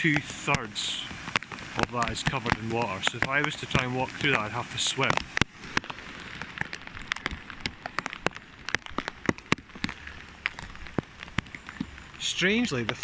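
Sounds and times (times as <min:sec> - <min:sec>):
rain hiss: 0:00.0 - 0:13.0
raindrops tapping on plastic: 0:00.0 - 0:13.0.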